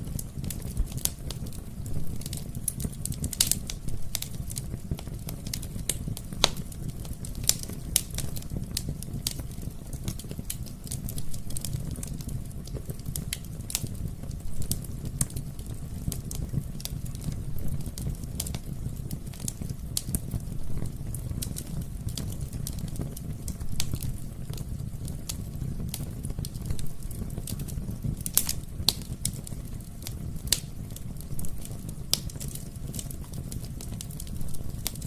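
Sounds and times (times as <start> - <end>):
fire crackling and popping: 0.0 - 35.0
low rumble of flame: 0.0 - 35.0.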